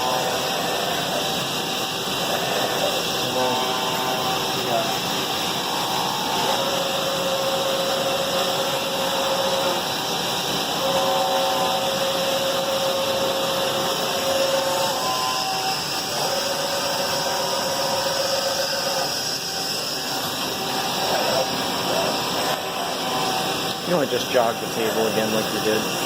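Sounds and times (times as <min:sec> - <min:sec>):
machine motor whine: 0:00.0 - 0:26.0
machine shop hiss: 0:00.0 - 0:26.0.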